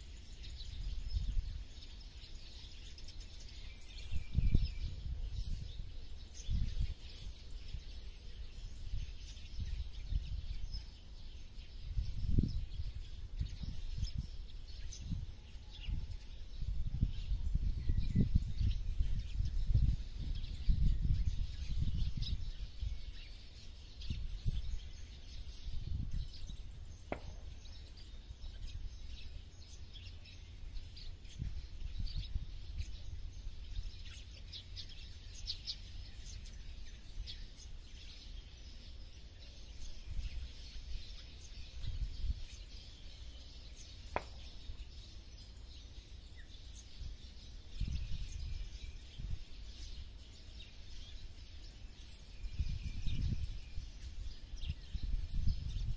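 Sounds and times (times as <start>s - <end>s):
small songbirds chirping: 0.0s - 55.9s.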